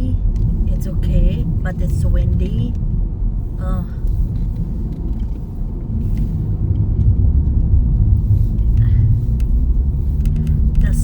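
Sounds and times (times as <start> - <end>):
car driving heard from inside: 0.0 - 11.0.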